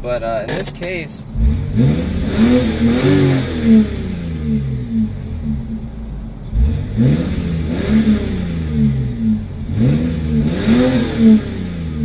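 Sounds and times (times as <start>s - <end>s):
car exhaust revving: 0.0s - 12.0s.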